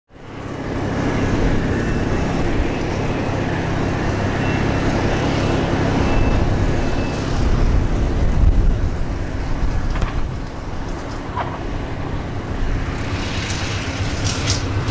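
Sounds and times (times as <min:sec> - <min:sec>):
diesel locomotive rumbling: 0:00.1 - 0:14.9.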